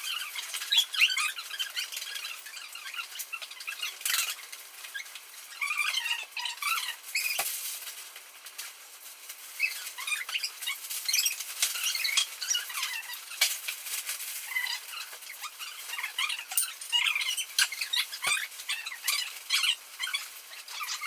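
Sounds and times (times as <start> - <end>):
plastic bags and fabric rustling: 0.0 - 21.0.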